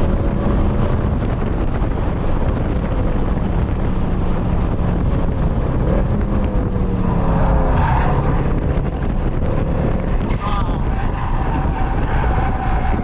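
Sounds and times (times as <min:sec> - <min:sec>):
car engine running hard: 0:00.0 - 0:13.0
wind noise on microphone: 0:00.0 - 0:13.0.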